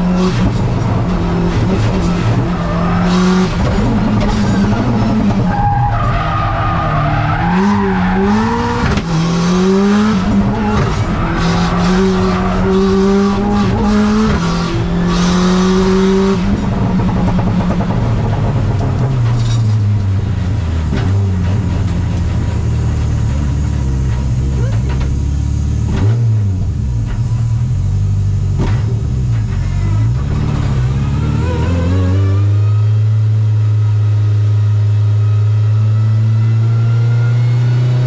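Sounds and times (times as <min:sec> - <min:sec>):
rally car engine revving: 0:00.0 - 0:38.0.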